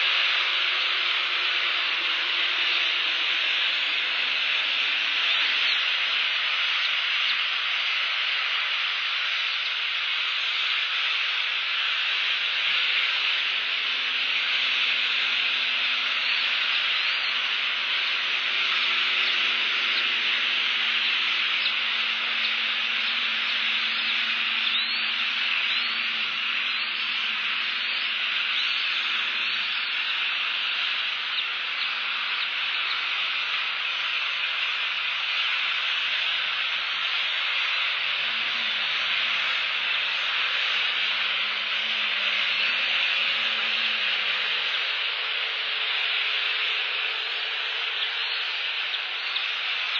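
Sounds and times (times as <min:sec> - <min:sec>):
heavy rain: 0:00.0 - 0:31.2, 0:31.9 - 0:49.9.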